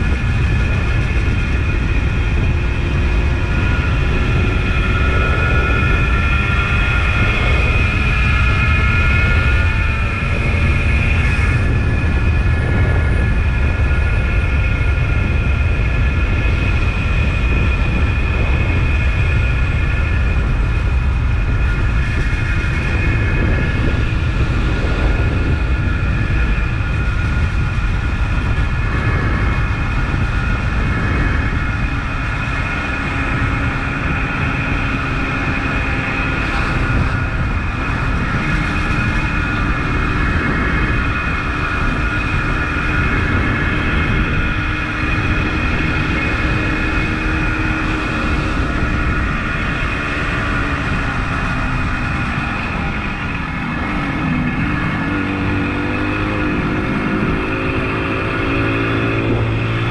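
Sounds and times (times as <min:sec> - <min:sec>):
low rumble of wind noise: 0:00.0 - 0:59.9
motorcycle engine running: 0:00.0 - 0:59.9.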